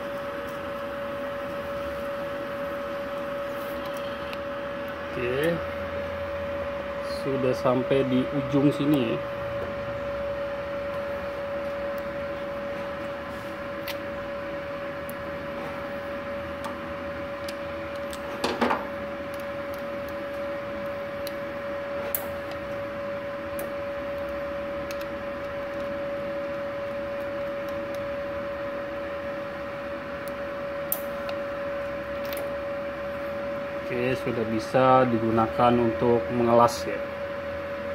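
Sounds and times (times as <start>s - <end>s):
welding machine humming: 0.0s - 37.9s.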